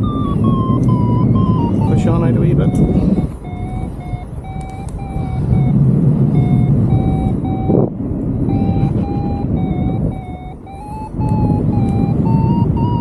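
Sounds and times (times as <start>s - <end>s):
variometer beeping: 0.0s - 13.0s
wind rushing over microphone: 0.0s - 13.0s.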